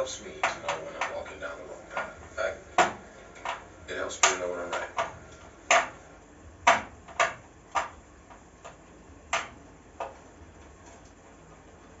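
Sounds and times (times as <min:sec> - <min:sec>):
sharp clicks and light knocks: 0:00.4 - 0:06.0, 0:06.6 - 0:12.0.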